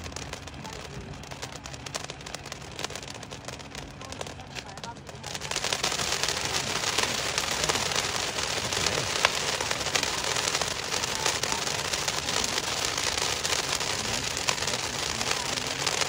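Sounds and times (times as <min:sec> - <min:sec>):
firework fountain crackling: 0:00.0 - 0:16.0.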